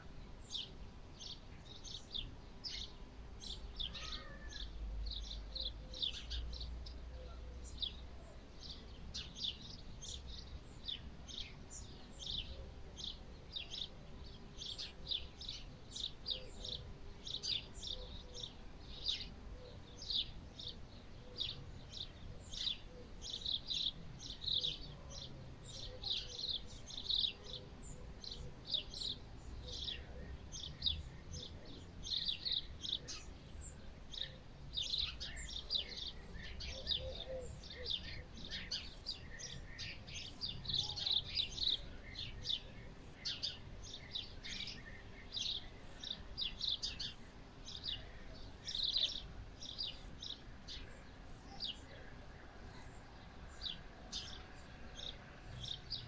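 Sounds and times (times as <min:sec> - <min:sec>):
many small birds chirping: 0:00.0 - 0:56.0.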